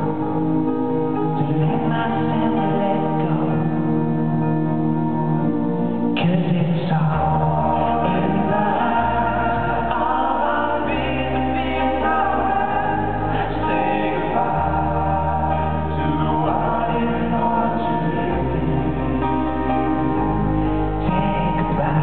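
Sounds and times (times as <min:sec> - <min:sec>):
man singing lead vocal: 0:00.0 - 0:04.5, 0:06.1 - 0:22.0
acoustic guitar: 0:00.0 - 0:22.0
deep bass line: 0:00.0 - 0:22.0
male harmony vocal group: 0:00.0 - 0:22.0.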